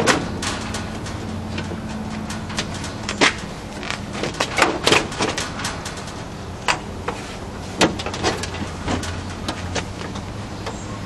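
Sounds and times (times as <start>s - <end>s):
metallic clicks and knocks: 0.0s - 10.9s.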